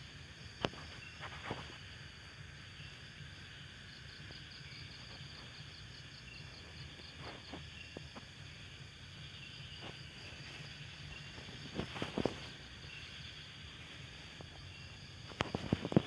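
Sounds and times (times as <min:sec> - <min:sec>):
cricket trilling: 0:00.0 - 0:16.0.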